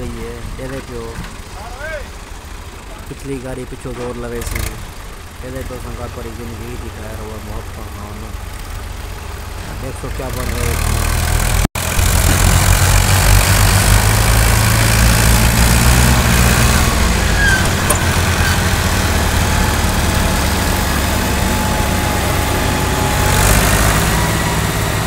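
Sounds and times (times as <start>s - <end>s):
tractor diesel engines under load: 0.0s - 25.0s.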